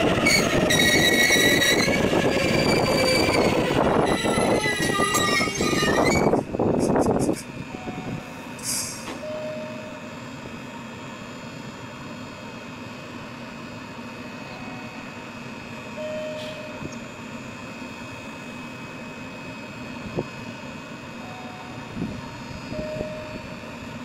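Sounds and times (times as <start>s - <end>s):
train equipment humming: 0.0s - 24.0s.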